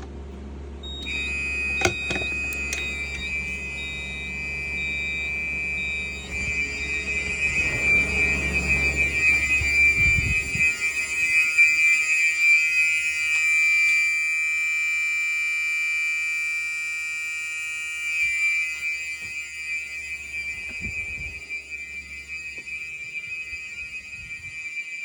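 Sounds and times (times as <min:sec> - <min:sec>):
fire alarm horns: 0:00.8 - 0:25.0.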